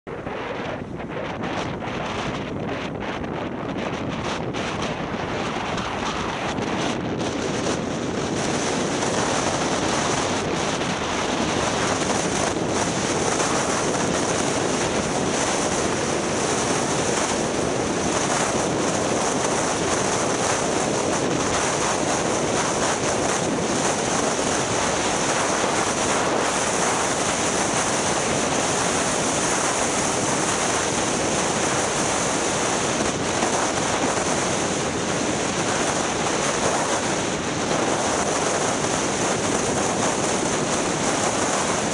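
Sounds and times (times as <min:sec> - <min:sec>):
wind rushing over microphone: 0:00.1 - 0:41.9.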